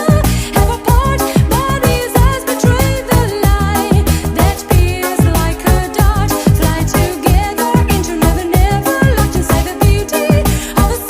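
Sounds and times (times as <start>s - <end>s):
upbeat dance music: 0.0s - 11.0s.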